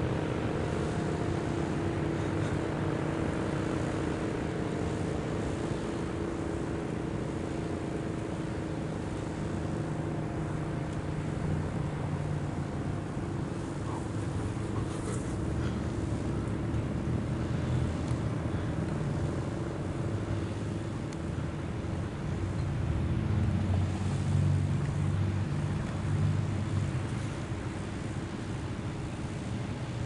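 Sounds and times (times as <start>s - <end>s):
low motor rumble: 0.0s - 30.0s.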